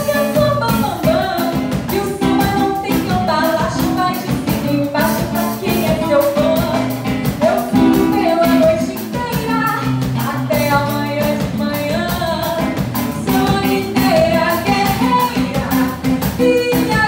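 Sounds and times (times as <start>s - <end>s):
drum kit steady beat: 0.0s - 17.0s
live band playing: 0.0s - 17.0s
woman singing samba into microphone: 0.0s - 17.0s.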